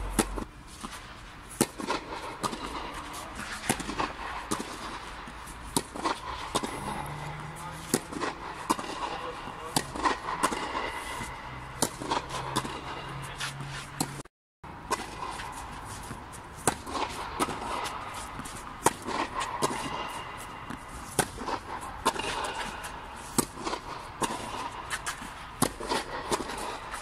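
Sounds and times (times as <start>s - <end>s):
racket hitting tennis ball: 0.0s - 14.2s, 14.8s - 27.0s
tennis ball bouncing: 0.0s - 14.2s, 14.9s - 27.0s.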